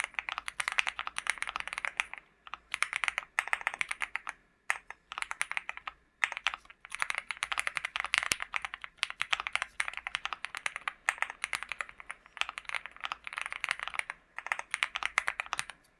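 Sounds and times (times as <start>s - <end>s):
mechanical keyboard typing: 0.0s - 15.9s.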